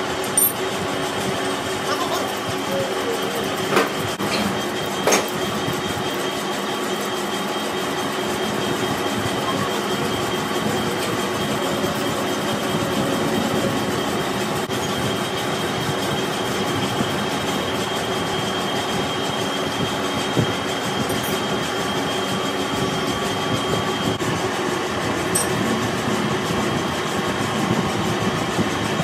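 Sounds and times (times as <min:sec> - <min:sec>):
lathe machining metal: 0:02.3 - 0:29.0.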